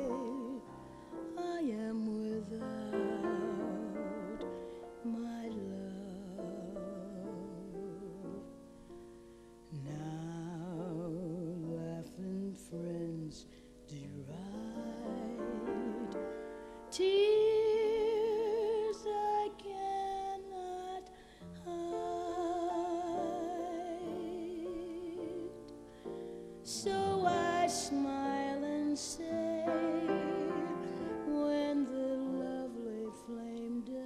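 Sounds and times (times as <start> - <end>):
woman singing jazz ballad: 0.0 - 8.5, 9.6 - 34.0.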